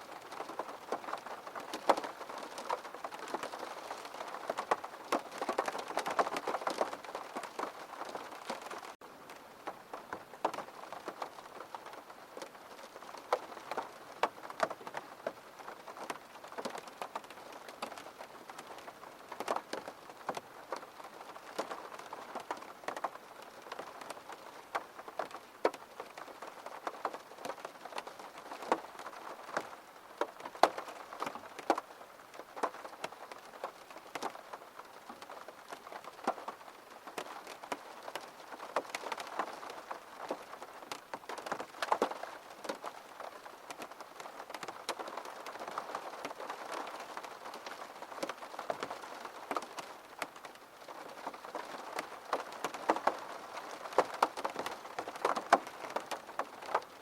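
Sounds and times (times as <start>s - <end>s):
steady rain: 0.0s - 57.0s
raindrops tapping: 0.2s - 57.0s.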